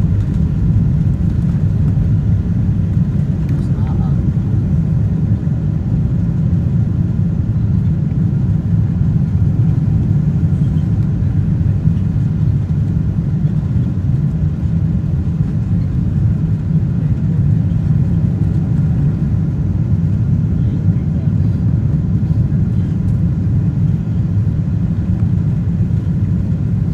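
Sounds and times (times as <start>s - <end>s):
airplane cabin rumble: 0.0s - 26.9s.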